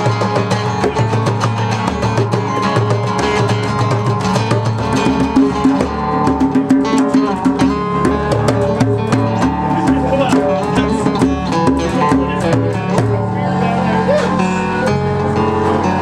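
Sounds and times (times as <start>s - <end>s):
drums: 0.0s - 16.0s
guitar: 0.0s - 16.0s.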